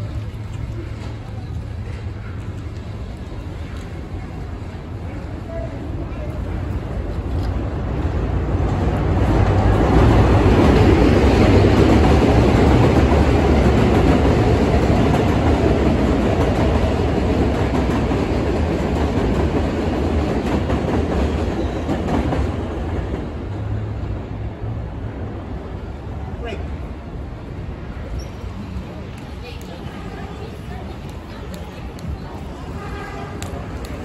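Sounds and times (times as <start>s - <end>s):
clickety-clack of train wheels: 0.0s - 23.7s, 29.1s - 34.0s
subway train rumbling overhead: 0.0s - 34.0s.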